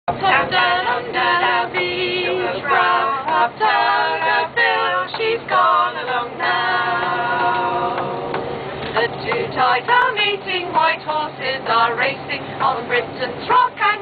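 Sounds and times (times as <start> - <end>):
women singing unaccompanied: 0.1 - 8.3, 8.9 - 14.0.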